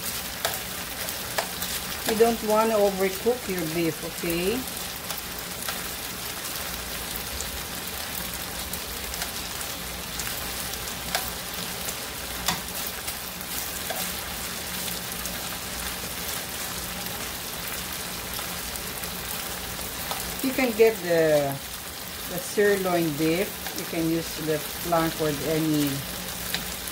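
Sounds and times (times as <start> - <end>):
meat sizzling in a frying pan: 0.0 - 26.9.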